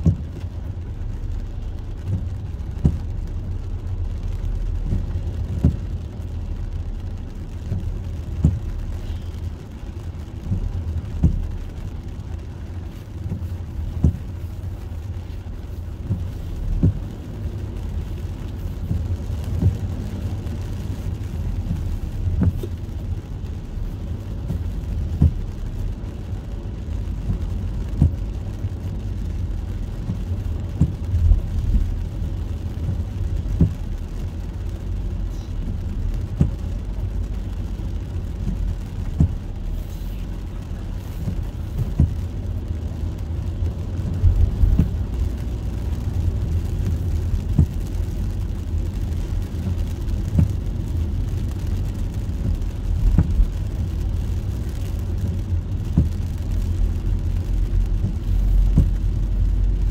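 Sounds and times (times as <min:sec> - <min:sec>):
car engine and wet road rumble: 0:00.0 - 0:59.9
windshield wipers thumping: 0:00.0 - 0:59.9.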